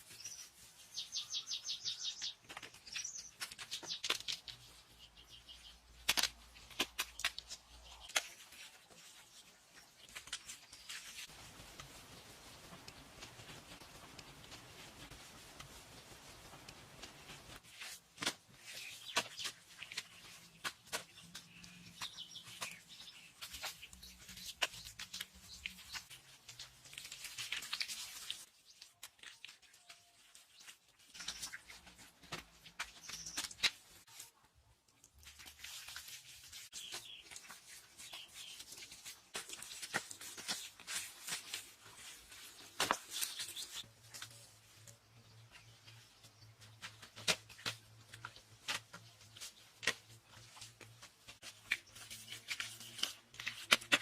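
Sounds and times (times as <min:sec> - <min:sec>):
rustling and scraping: 0:02.2 - 0:54.0.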